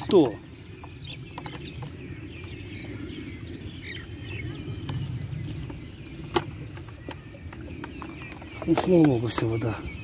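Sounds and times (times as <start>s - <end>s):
low outdoor rumble: 0.0s - 10.0s
small birds chirping: 0.0s - 10.0s.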